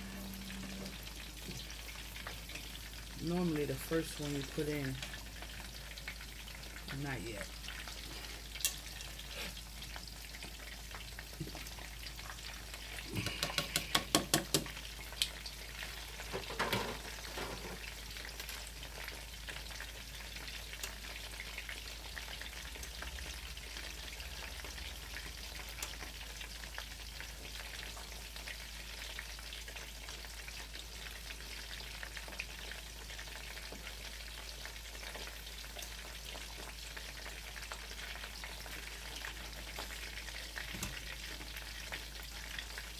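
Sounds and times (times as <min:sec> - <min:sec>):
cutlets sizzling in oil: 0:00.0 - 0:42.9.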